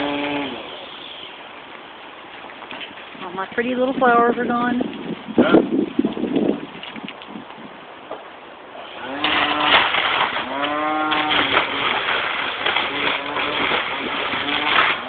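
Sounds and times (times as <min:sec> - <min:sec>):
leafy branches rustling: 0:00.0 - 0:15.0.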